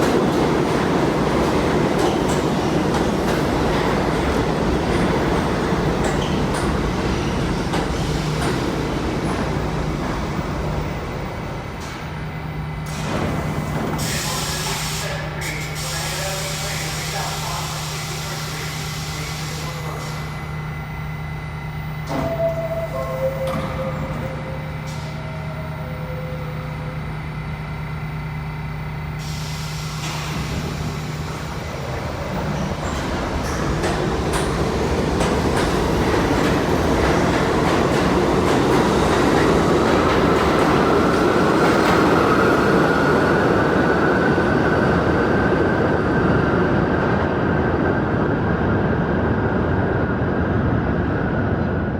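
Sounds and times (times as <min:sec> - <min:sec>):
subway train running noise: 0:00.0 - 0:51.9.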